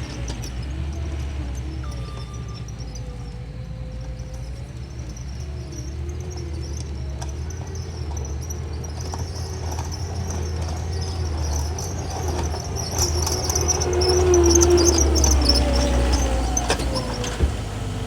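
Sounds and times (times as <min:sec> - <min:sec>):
skid steer engine droning: 0:00.0 - 0:18.0.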